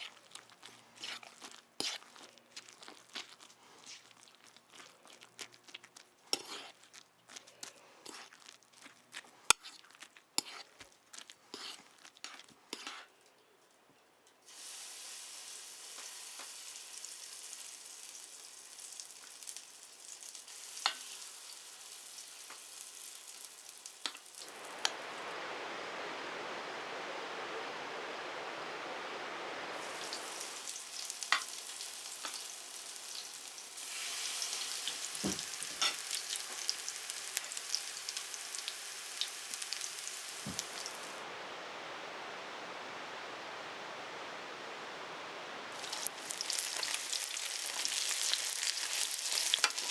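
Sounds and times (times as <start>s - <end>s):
pancakes sizzling in oil: 0.0s - 13.1s, 14.4s - 41.3s, 45.7s - 49.9s.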